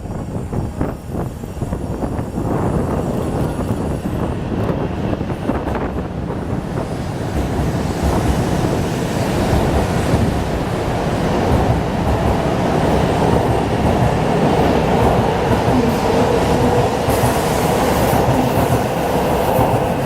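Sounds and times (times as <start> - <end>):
train running past: 0.0 - 20.0.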